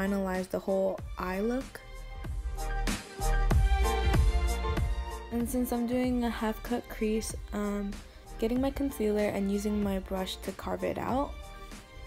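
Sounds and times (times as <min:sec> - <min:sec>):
background music with beat: 0:01.0 - 0:12.0
deep bass: 0:01.0 - 0:12.0.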